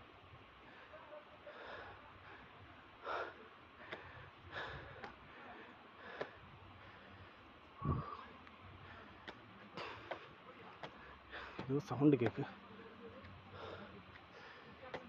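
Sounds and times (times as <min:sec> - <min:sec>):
person breathing heavily: 0:00.6 - 0:11.7, 0:12.4 - 0:15.0.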